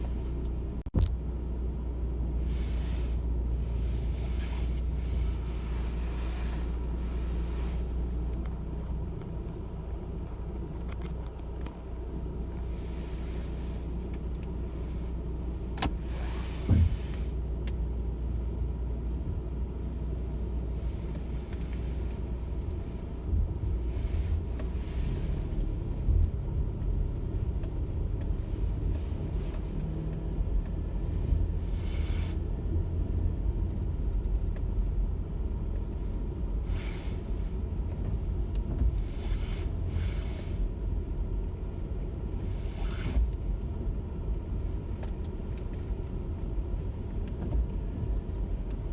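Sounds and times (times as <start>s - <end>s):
engine and road noise rumble: 0.0s - 48.9s.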